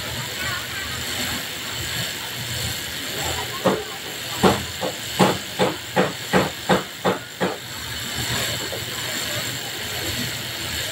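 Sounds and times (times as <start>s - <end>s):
steam iron hissing: 0.0s - 10.9s.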